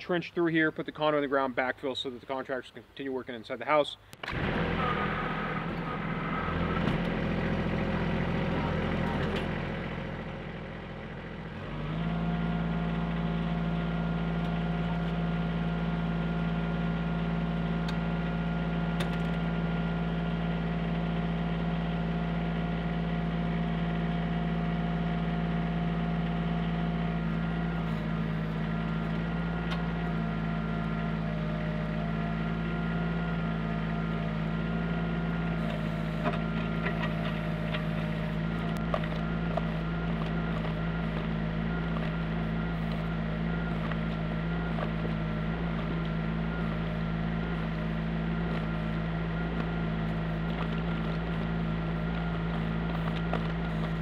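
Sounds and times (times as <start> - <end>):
tractor engine running: 4.0 - 54.0.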